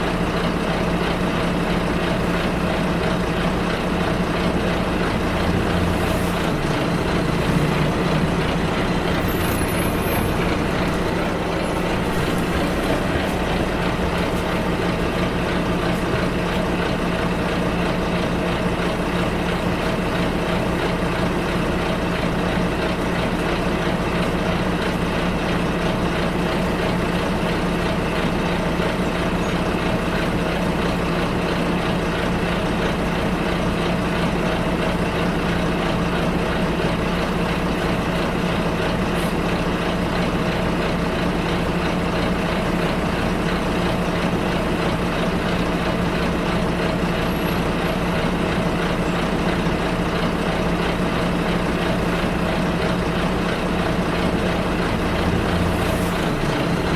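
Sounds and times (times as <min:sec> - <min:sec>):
bus engine hum: 0:00.0 - 0:56.9.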